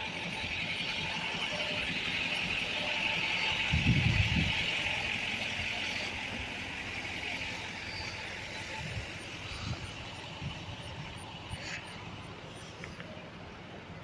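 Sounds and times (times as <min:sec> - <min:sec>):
road vehicle hiss: 0:00.0 - 0:14.0.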